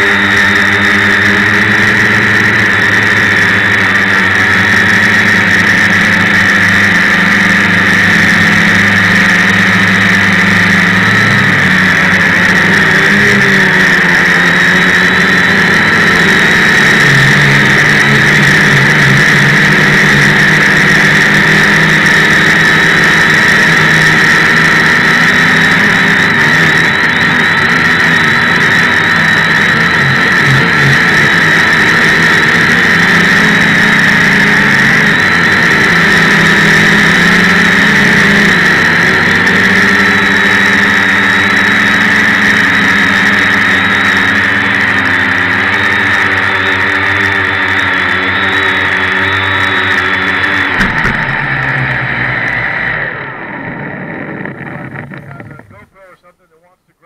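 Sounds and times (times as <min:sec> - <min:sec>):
drone propellers humming: 0:00.0 - 0:56.8.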